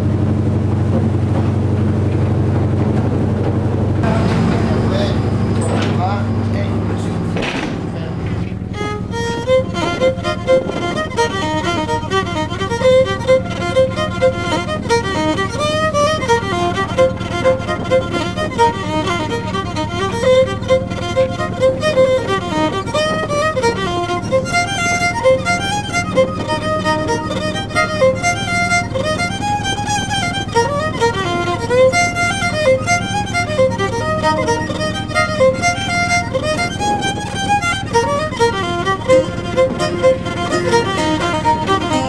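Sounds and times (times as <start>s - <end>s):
fiddle tune with beat: 0.8s - 42.0s.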